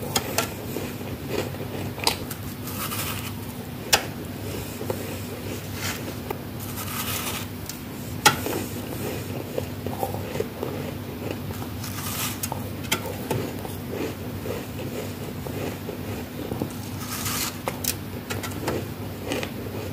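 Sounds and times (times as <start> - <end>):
frost crunching being chewed: 0.1 - 19.9.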